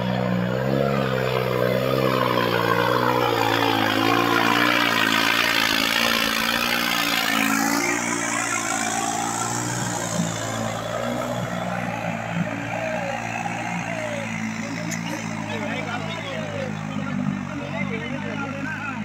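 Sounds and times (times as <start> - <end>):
tractor diesel engine labouring: 0.0 - 19.0.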